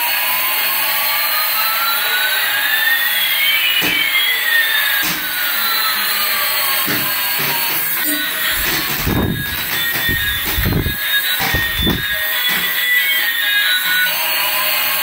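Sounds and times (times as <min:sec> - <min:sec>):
toy jet engine hissing rush: 0:01.9 - 0:14.1.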